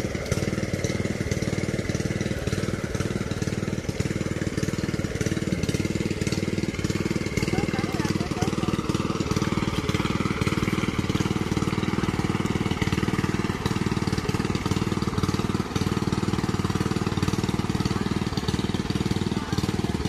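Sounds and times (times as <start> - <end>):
engine-driven water pump throbbing: 0.0 - 20.0
water rushing from pipe: 0.0 - 20.0.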